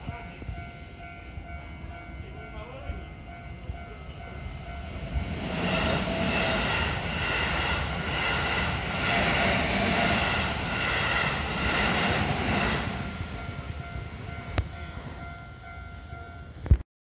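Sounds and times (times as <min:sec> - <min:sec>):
crossing warning bell: 0:00.0 - 0:09.2, 0:10.0 - 0:16.8
electric train passing: 0:00.0 - 0:16.8.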